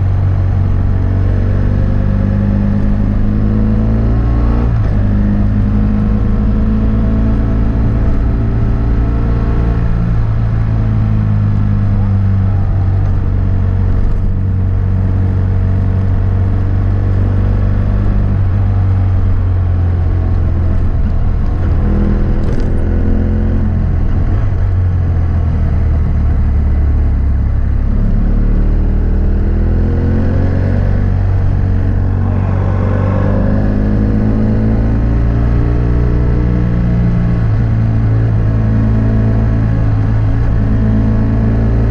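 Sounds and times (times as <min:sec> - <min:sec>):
motorcycle engine under way: 0:00.0 - 0:41.9.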